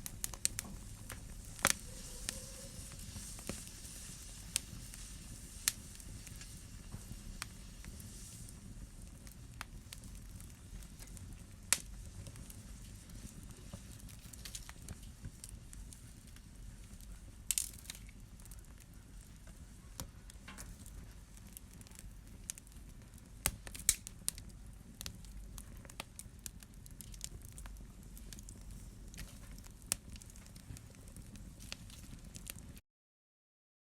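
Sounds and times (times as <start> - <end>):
fire crackling and popping: 0.0 - 32.8
fire flames rumbling: 0.0 - 32.8.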